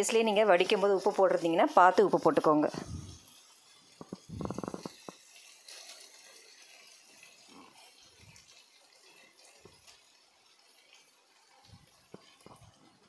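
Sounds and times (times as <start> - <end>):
vegetables sizzling in pan: 0.0 - 13.0.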